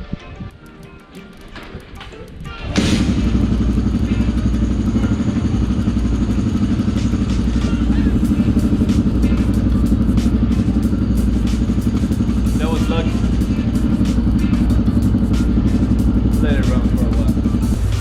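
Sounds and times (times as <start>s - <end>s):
dirt bike engine idling: 2.8s - 18.0s.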